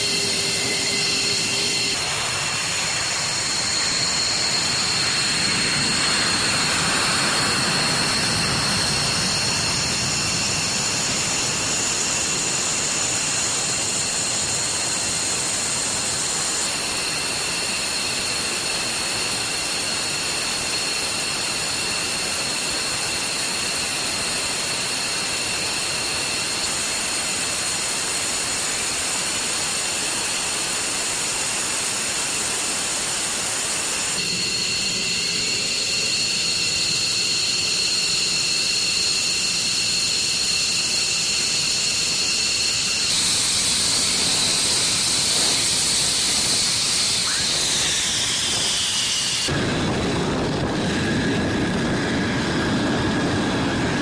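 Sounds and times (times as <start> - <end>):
high turbine whine: 0.0 - 54.0
jet engines roaring: 0.0 - 54.0.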